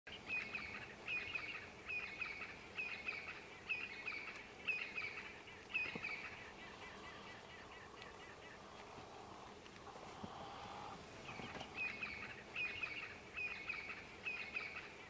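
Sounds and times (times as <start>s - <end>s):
bird calling: 0.1s - 15.0s.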